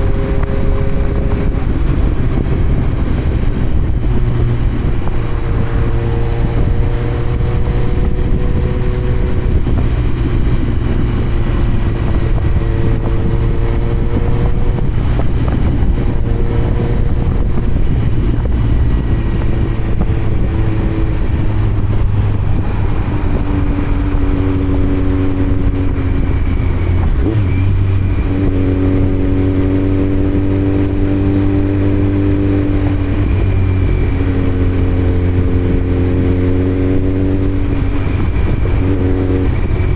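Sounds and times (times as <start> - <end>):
motorcycle engine running loud: 0.0 - 39.9
road noise: 0.0 - 39.9.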